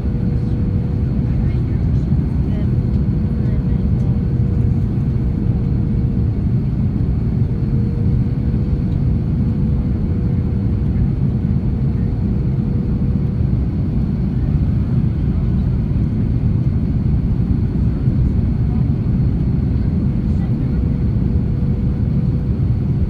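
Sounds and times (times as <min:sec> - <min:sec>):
airliner engines and airflow rumble: 0:00.0 - 0:23.0.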